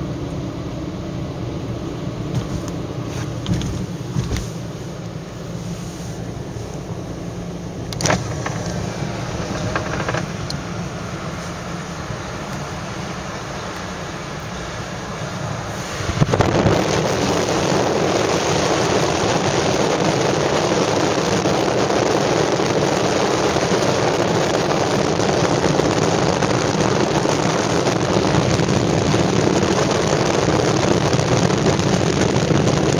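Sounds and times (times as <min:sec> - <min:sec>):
car interior road noise: 0:00.0 - 0:32.9.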